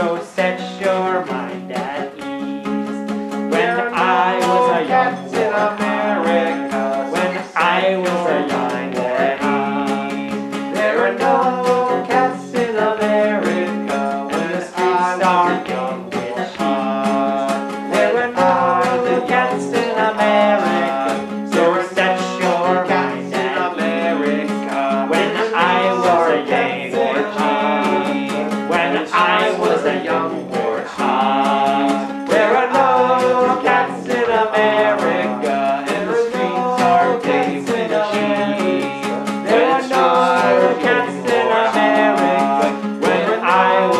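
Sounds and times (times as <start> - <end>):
acoustic guitar strumming: 0.0 - 43.9
person singing: 0.0 - 43.9.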